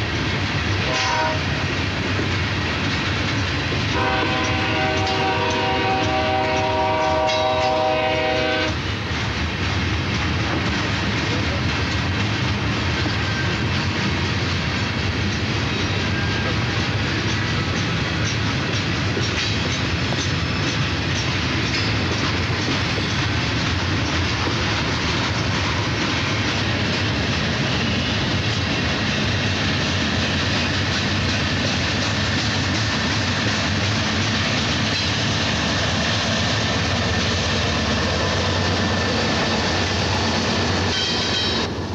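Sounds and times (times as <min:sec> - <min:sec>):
diesel locomotive engines: 0:00.0 - 0:41.9
train cars rolling on rails: 0:00.0 - 0:41.9.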